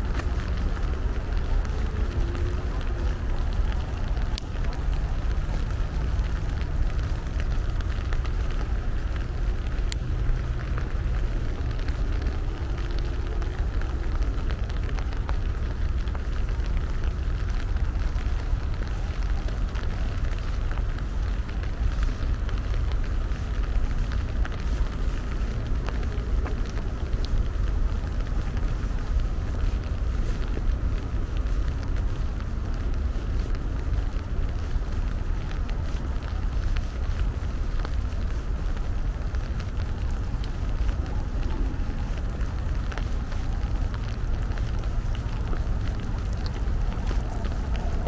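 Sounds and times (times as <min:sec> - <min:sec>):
constant low rumble: 0:00.0 - 0:48.0
steady rain: 0:00.0 - 0:48.0.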